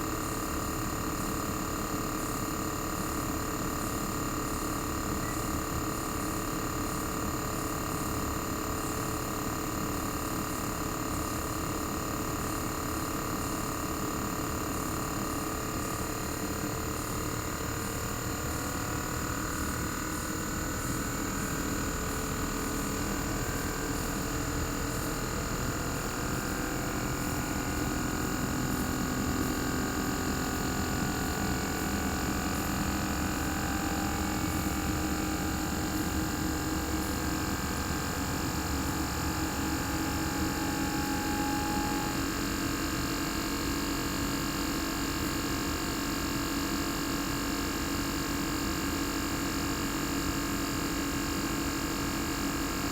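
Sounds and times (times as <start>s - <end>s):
air conditioner compressor humming: 0.0s - 52.9s.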